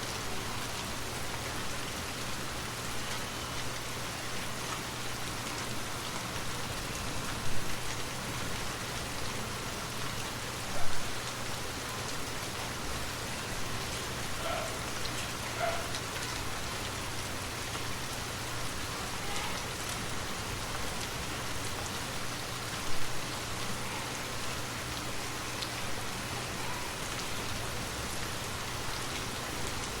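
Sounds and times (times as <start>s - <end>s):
light rain patter: 0.0s - 30.0s.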